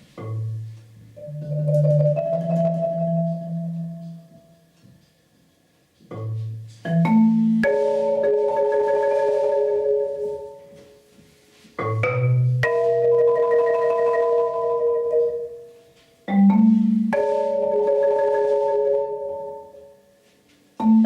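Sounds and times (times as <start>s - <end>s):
marimba notes and chords: 0.1s - 4.8s, 6.0s - 21.0s.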